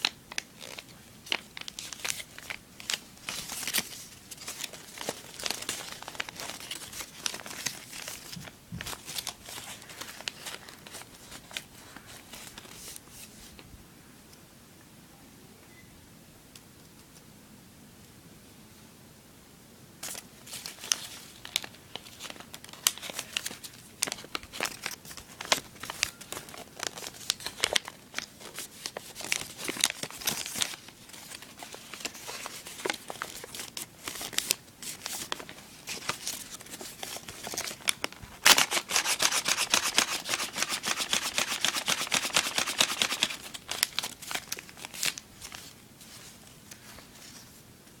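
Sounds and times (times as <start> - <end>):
paper crinkling: 0.0 - 13.7, 20.0 - 47.6.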